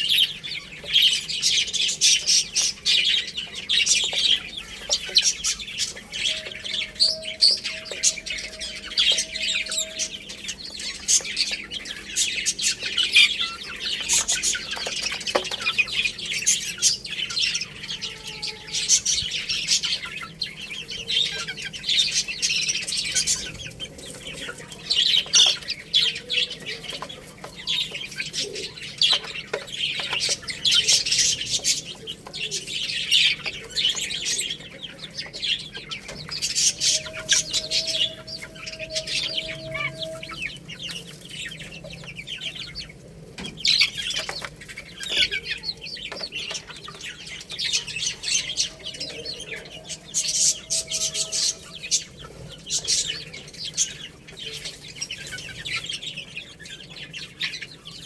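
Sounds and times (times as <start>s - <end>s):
baby chicks peeping: 0.0s - 58.0s.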